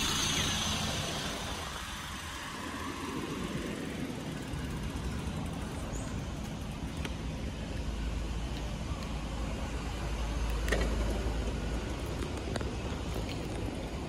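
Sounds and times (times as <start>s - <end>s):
bicycle rumbling on wet pavement: 0.0s - 14.0s.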